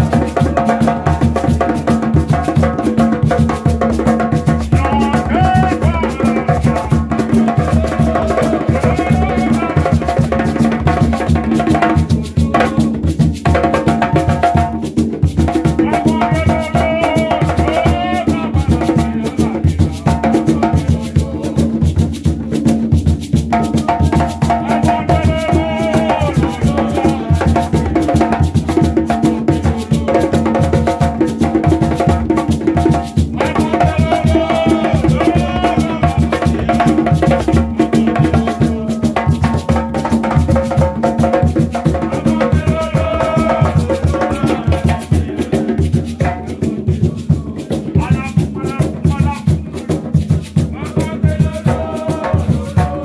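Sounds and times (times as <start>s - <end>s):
man singing: 0.0s - 22.6s, 23.3s - 53.0s
hand drums: 0.0s - 53.0s
shaker rattling: 1.4s - 53.0s.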